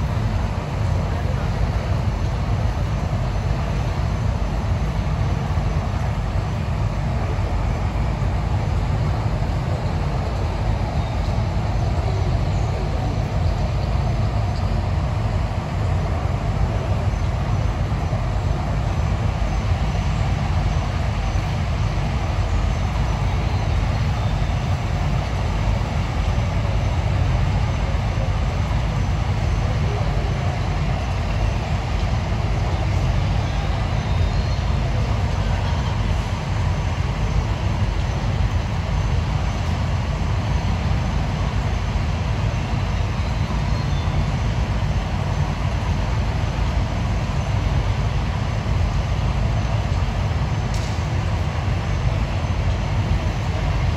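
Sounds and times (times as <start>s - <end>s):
steady low rumbling: 0.0s - 53.9s.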